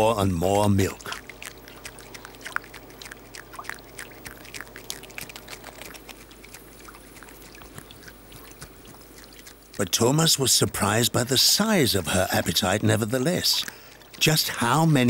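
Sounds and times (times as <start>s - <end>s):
beaver chewing wet crunches: 0.0s - 15.0s
water trickling and dripping: 0.0s - 15.0s.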